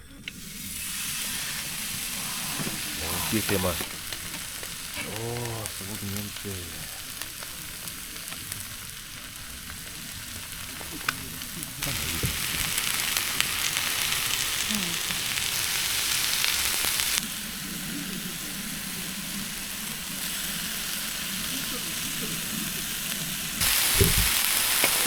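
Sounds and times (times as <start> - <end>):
beef sizzling: 0.2 - 25.0
small crackles and pops: 1.6 - 25.0.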